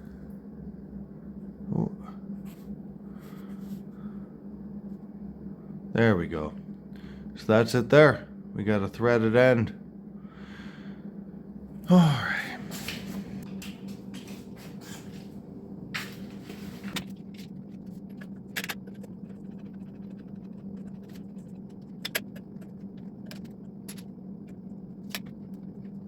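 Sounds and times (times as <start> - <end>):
steady motor hum: 0.0 - 26.0.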